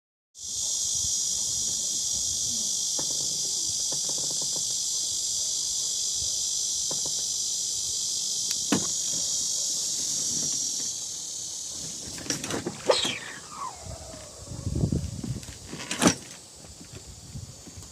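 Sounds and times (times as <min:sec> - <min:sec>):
high-pitched insect chorus: 0:00.4 - 0:17.9.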